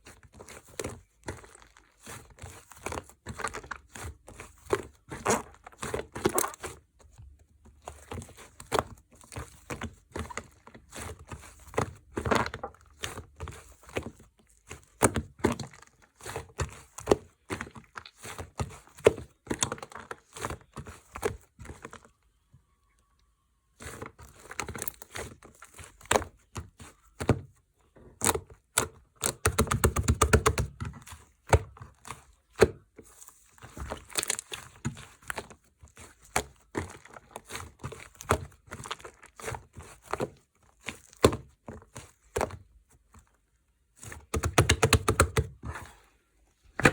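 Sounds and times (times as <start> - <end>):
slime squishing with sticky pops: 0.0 - 22.1, 23.8 - 45.7.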